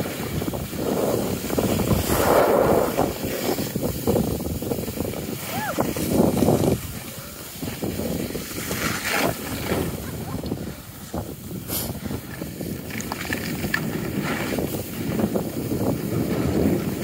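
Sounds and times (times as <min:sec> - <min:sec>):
skis scraping over snow: 0:00.0 - 0:17.0
wind on microphone: 0:00.0 - 0:17.0.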